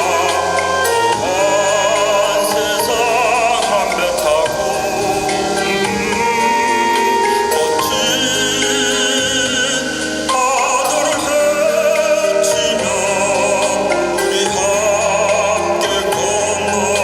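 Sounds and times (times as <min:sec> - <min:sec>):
backing band playing: 0:00.0 - 0:17.0
person singing with heavy vibrato: 0:00.0 - 0:17.0.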